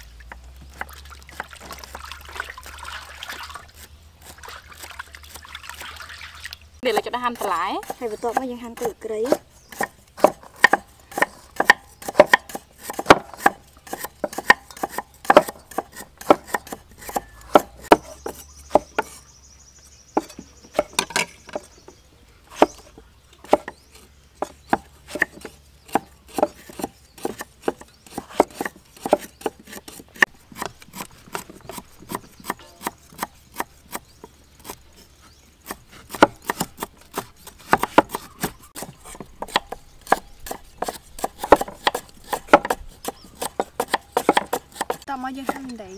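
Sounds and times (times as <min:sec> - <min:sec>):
cleavers chopping on wooden blocks: 0:00.3 - 0:02.0, 0:06.8 - 0:19.2, 0:20.1 - 0:21.9, 0:22.5 - 0:34.8, 0:35.6 - 0:45.9.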